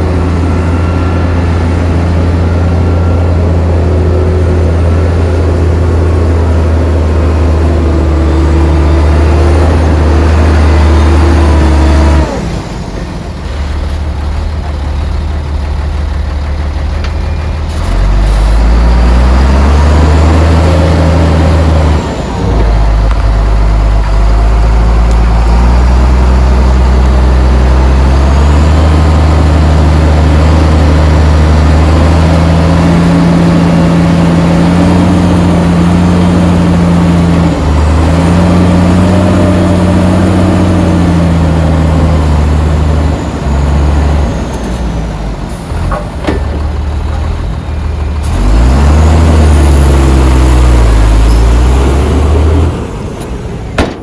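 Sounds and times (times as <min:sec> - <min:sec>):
heavy diesel engine working hard: 0:00.0 - 0:54.0.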